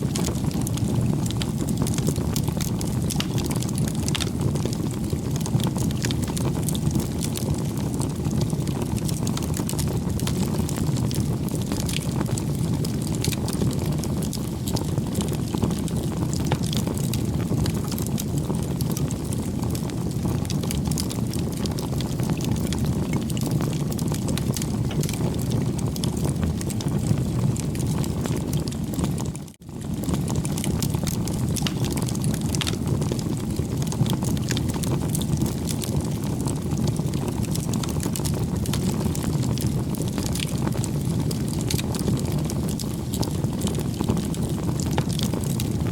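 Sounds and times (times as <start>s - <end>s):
low fire rumble: 0.0s - 45.9s
wood crackling and popping: 0.0s - 45.9s.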